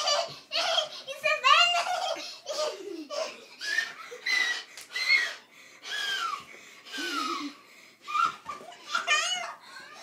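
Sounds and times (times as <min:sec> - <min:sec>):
children shrieking and squealing: 0:00.0 - 0:10.0.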